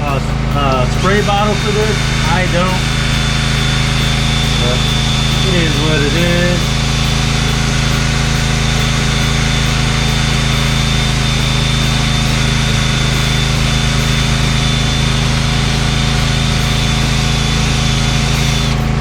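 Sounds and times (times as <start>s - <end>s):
electric sander droning: 0.0s - 19.0s.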